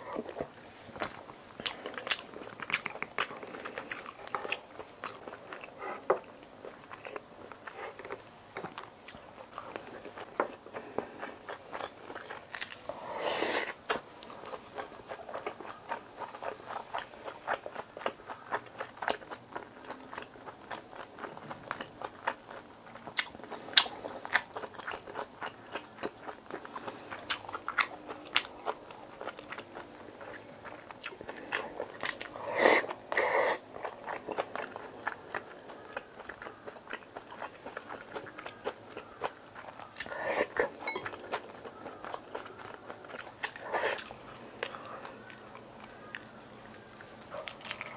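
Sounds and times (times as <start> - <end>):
person chewing with wet clicks: 0.2 - 13.0, 13.7 - 47.9.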